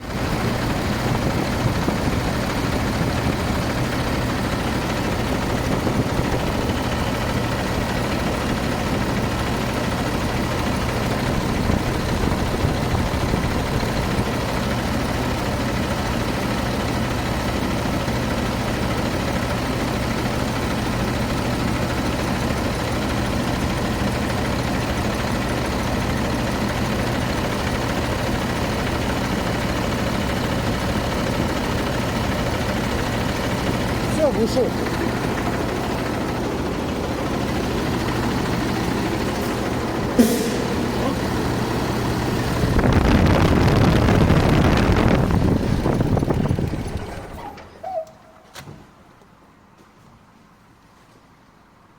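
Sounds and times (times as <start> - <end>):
diesel engine idling: 0.0 - 49.7.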